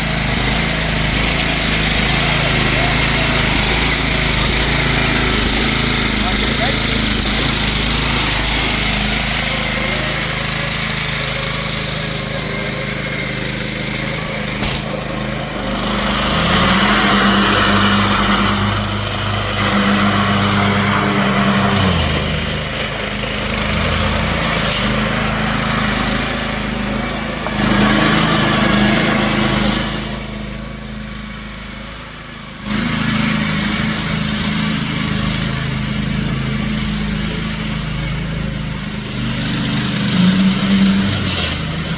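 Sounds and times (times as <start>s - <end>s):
riding lawn mower engine running: 0.0s - 41.9s.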